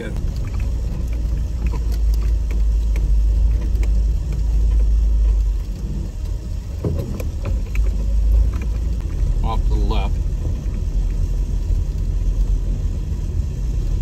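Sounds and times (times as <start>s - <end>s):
truck engine low rumble: 0.0s - 14.0s
knocks and rattles: 0.1s - 12.3s.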